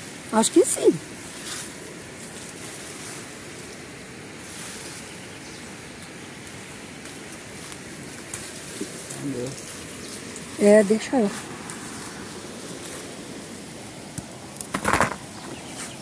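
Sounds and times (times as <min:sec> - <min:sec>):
pole rustling through leafy branches: 0:00.0 - 0:16.0
steady rushing outdoor noise: 0:00.0 - 0:16.0.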